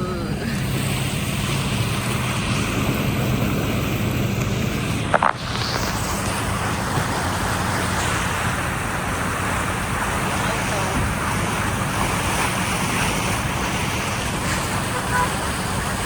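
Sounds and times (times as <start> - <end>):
low hum: 0.0 - 14.3
floodwater rushing: 0.0 - 16.0.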